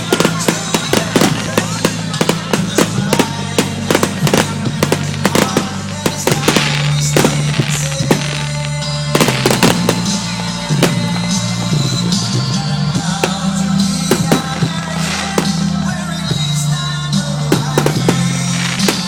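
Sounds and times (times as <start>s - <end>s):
fireworks bangs: 0.0s - 19.0s
fireworks crackling: 0.0s - 19.0s
music with steady bass: 0.0s - 19.0s.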